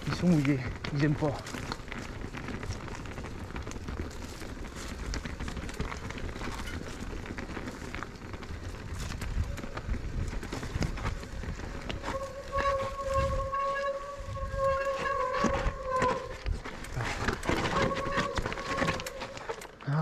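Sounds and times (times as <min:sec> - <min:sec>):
bike clicks and rattles: 0:00.0 - 0:20.0
bike tyres rumbling on trail: 0:00.0 - 0:20.0.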